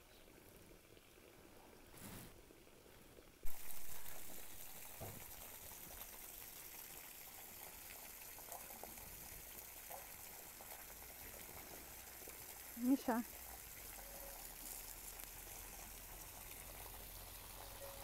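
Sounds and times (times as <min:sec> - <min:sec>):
hose water splashing on soil: 0:03.4 - 0:18.0.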